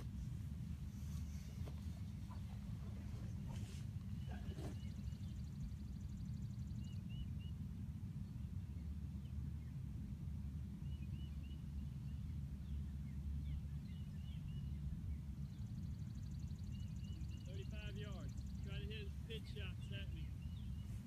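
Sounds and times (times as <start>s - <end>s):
small birds chirping: 0.0s - 9.8s, 10.7s - 21.0s
wind rumbling on microphone: 0.0s - 21.0s.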